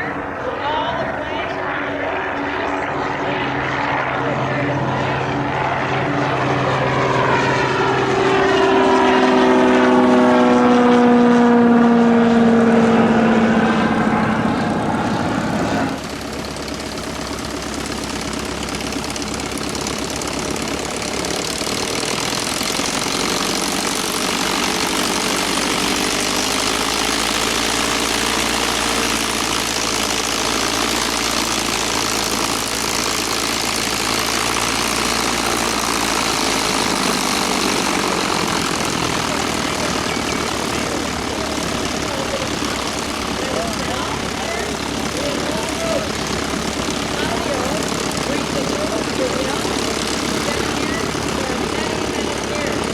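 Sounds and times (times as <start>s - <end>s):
propeller plane passing: 0.0s - 52.9s
radial engine running: 0.0s - 52.9s.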